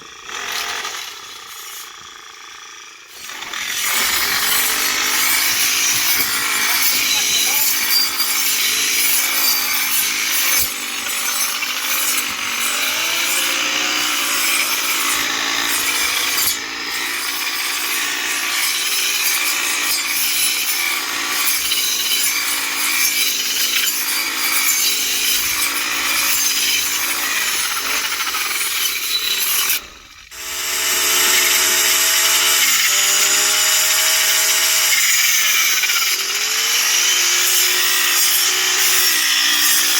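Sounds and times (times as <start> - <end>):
rasping grass cutting: 0.0 - 39.9.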